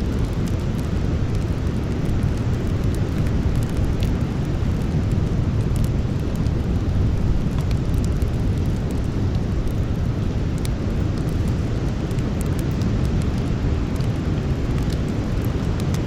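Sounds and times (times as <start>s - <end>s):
burning wood crackling: 0.0s - 16.0s.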